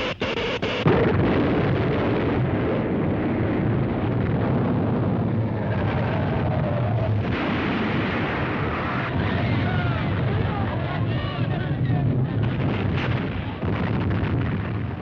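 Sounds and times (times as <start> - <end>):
earthquake rumble: 0.8 - 15.0.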